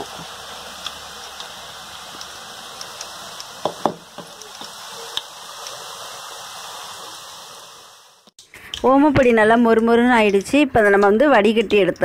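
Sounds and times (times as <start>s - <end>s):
food deep-frying in hot oil: 0.0s - 10.6s.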